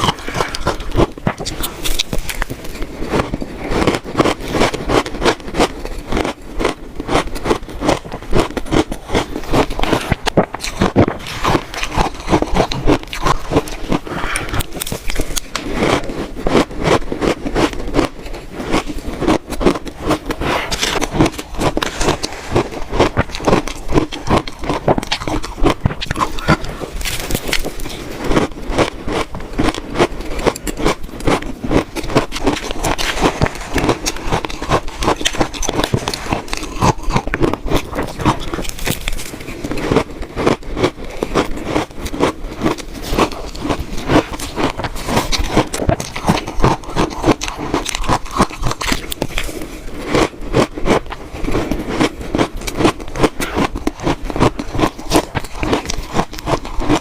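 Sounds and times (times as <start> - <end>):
chewing crunchy shaved ice: 0.0 - 57.0.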